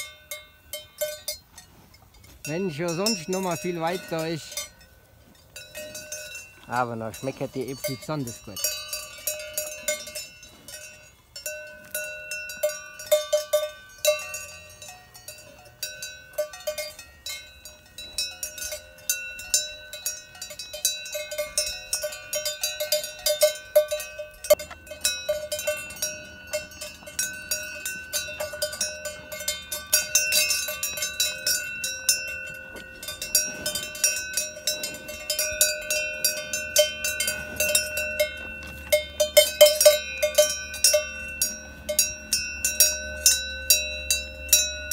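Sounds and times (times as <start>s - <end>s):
cowbells clanking: 0.0s - 44.9s.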